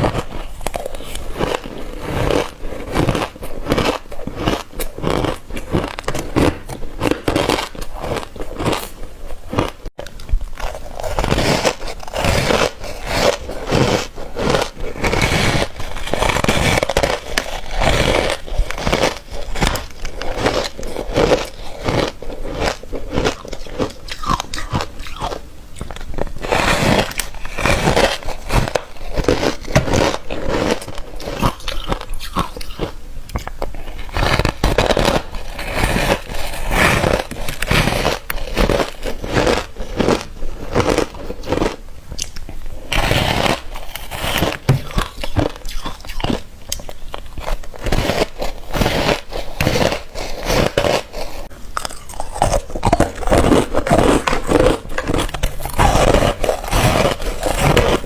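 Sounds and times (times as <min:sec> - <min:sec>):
person crunching ice: 0:00.0 - 0:09.9, 0:10.6 - 0:58.0.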